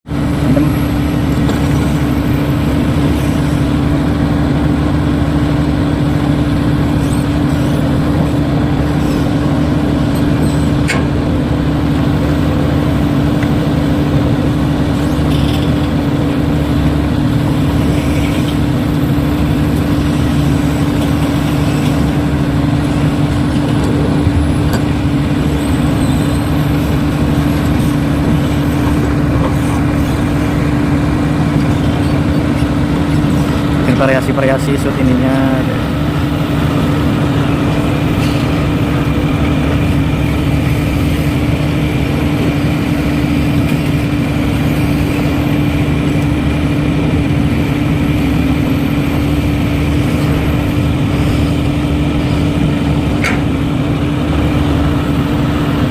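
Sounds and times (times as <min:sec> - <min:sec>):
engine-like drone: 0:00.0 - 0:55.9.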